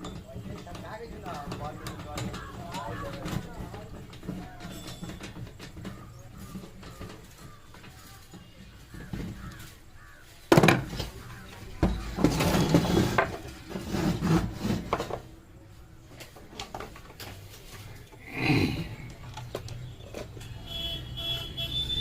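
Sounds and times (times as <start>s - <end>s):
rubbing and clattering handling: 0.0s - 22.0s.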